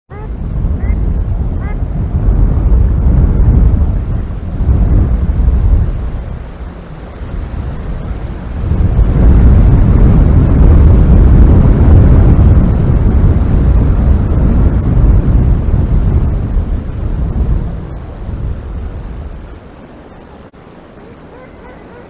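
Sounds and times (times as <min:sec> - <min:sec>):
wind buffeting microphone: 0:00.1 - 0:22.0.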